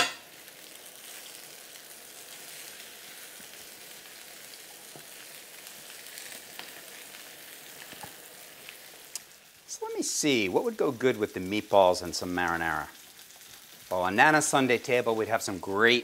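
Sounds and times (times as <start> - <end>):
meatballs sizzling in oil: 0.0 - 16.0.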